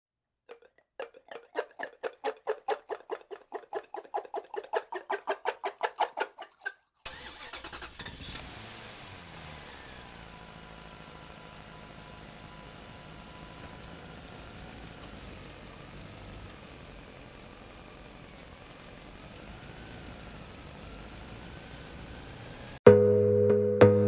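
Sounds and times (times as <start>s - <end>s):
small engine cranking: 0.5s - 22.8s
small engine idling: 0.5s - 22.8s.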